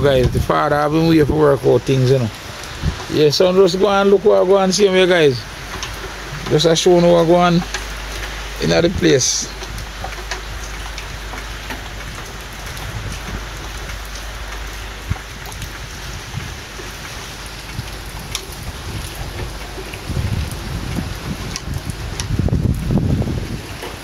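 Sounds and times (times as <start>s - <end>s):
heavy rain falling: 0.0s - 24.0s
sharp raindrop hits: 0.0s - 24.0s.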